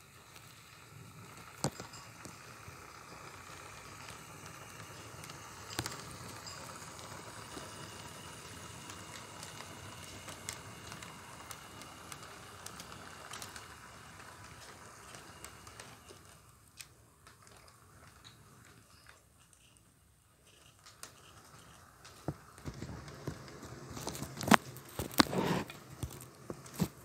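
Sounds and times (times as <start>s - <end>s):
model train rolling: 0.0s - 27.0s
wheels clicking on track: 0.0s - 27.0s.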